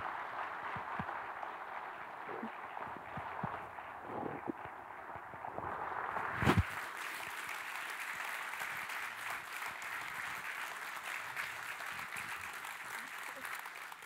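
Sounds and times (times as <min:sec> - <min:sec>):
congregation applauding: 0:00.0 - 0:04.6, 0:06.6 - 0:14.0.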